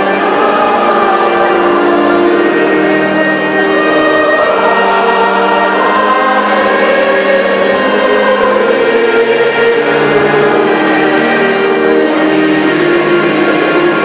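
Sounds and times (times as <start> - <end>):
choir with instruments: 0.0 - 14.0.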